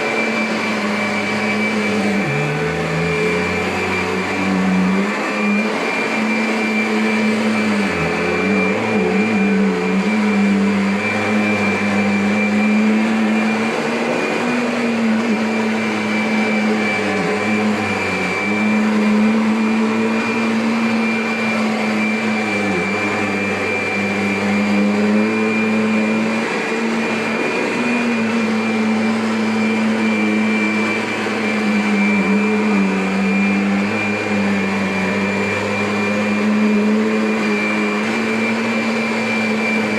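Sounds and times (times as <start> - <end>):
vacuum cleaner motor hum and whine: 0.0 - 39.9.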